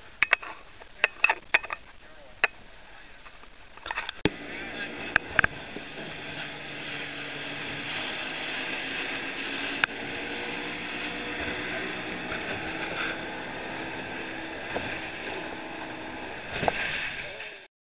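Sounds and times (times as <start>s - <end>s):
outboard motors droning: 0.0s - 17.7s
water rushing: 0.0s - 17.7s.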